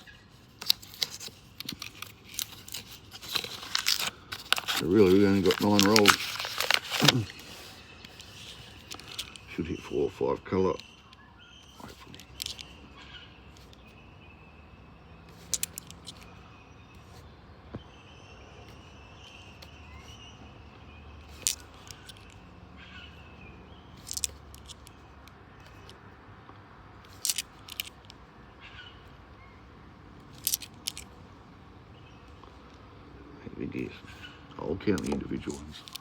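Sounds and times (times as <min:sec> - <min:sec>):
faint birdsong: 0:00.0 - 0:36.0.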